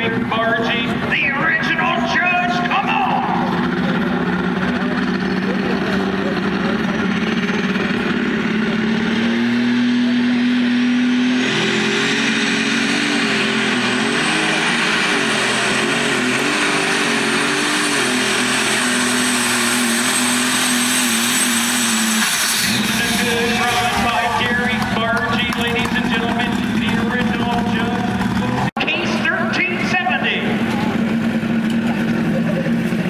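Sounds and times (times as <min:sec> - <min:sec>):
diesel engine running hard: 0:00.0 - 0:33.0.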